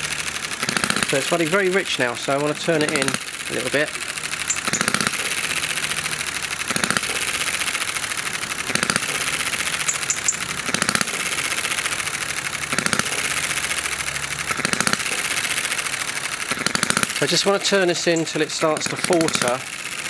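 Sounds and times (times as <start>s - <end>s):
model petrol engine running: 0.0s - 20.0s.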